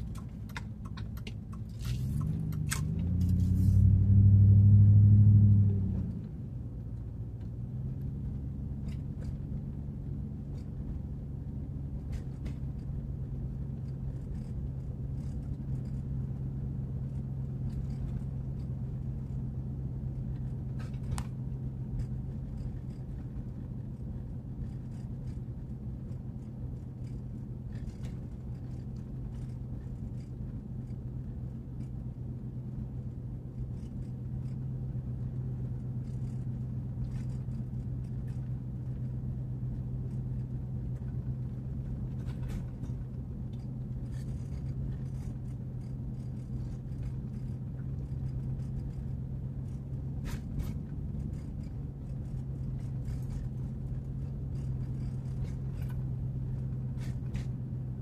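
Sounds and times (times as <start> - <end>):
car engine drone: 0.0 - 58.0
road noise: 0.0 - 58.0.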